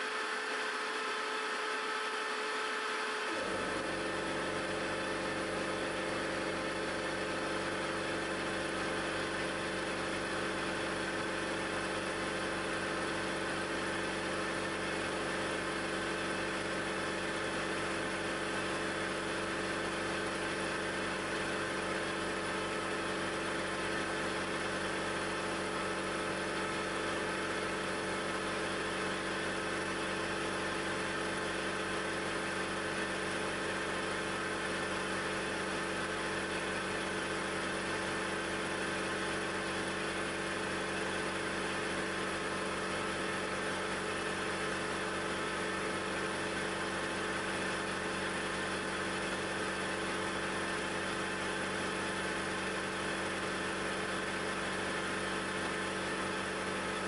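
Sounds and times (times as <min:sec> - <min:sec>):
milling machine hum: 0:00.0 - 0:57.0.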